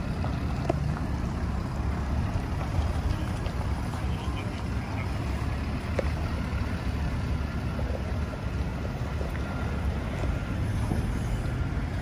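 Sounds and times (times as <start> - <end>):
bus drivetrain rumbling: 0.0 - 12.0.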